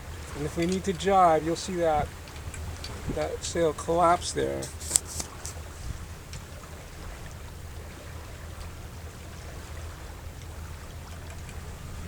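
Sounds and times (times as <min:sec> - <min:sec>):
water moving along boat hull: 0:00.0 - 0:12.0
wind rumble on microphone: 0:00.0 - 0:12.0.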